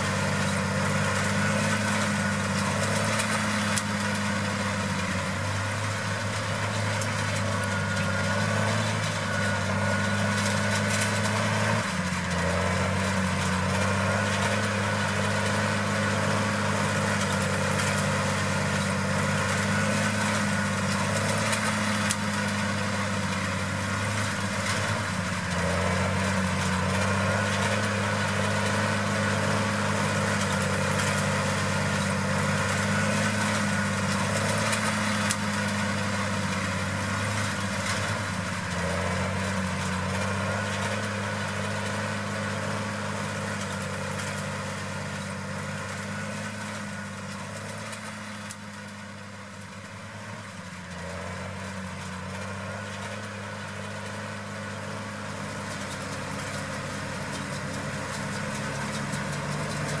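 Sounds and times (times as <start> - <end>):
tractor diesel engine running: 0.0 - 60.0.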